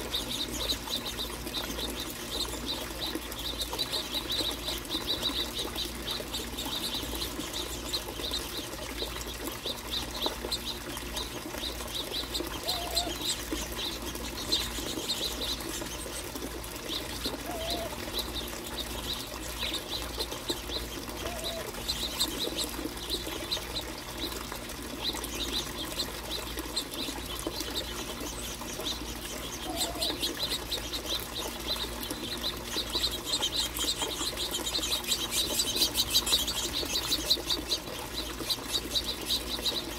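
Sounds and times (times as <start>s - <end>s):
wings fluttering: 0.0s - 39.9s.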